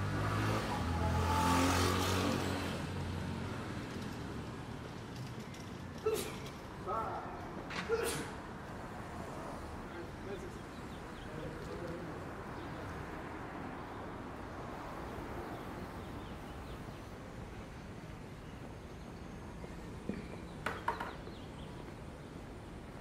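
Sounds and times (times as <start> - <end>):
distant traffic hum: 0.0 - 23.0.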